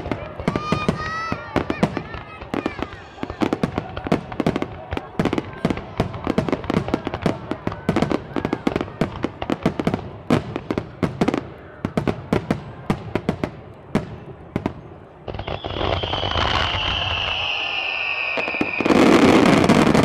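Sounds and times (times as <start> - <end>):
fireworks cracks and bangs: 0.0 - 20.0.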